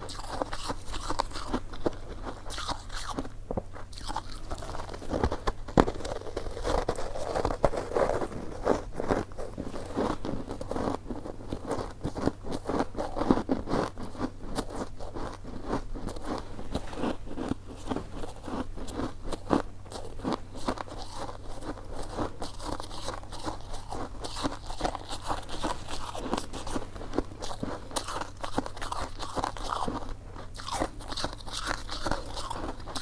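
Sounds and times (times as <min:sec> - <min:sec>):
person chewing sticky food: 0:00.0 - 0:33.0.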